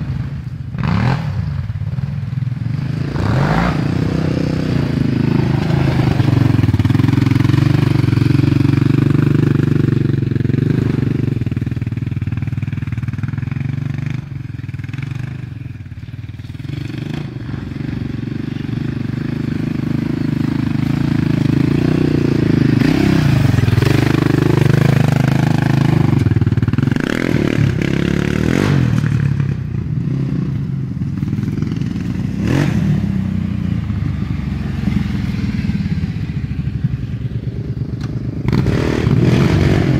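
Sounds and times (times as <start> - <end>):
quad bike engines revving: 0.0 - 39.9.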